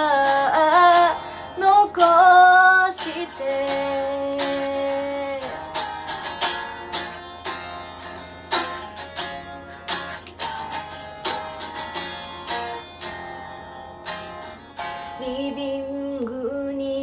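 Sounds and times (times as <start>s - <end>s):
acoustic guitar chords ringing: 0.0s - 16.3s.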